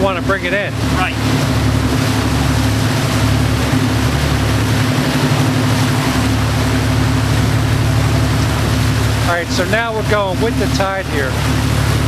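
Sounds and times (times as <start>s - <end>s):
boat engine running: 0.0s - 12.0s
wind and water noise: 0.0s - 12.0s.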